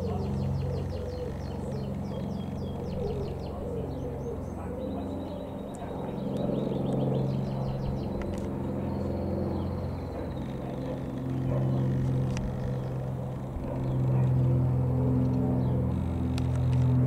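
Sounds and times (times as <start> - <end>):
small bird chirping: 0.0 - 14.4
propeller plane droning overhead: 0.0 - 17.0.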